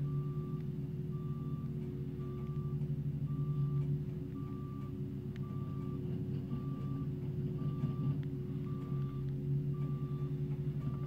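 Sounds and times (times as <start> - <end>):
diesel engines running: 0.0 - 11.0
reversing alarm beeps: 0.0 - 11.0.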